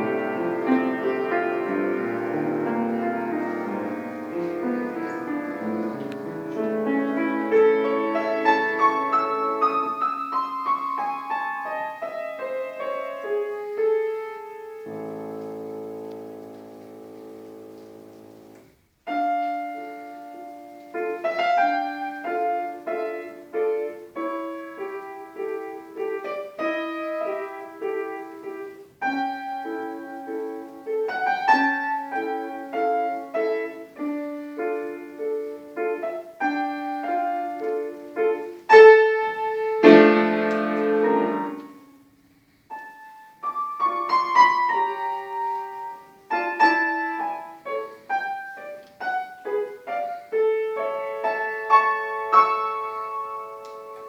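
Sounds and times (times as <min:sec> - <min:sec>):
solo piano classical piece: 0:00.0 - 0:54.0.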